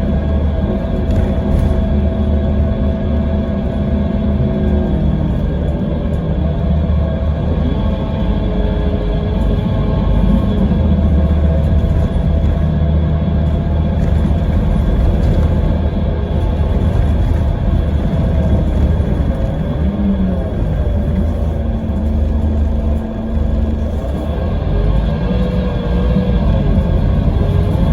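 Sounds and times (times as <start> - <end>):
coach diesel engine drone: 0.0 - 27.9
gearbox whine: 0.0 - 27.9.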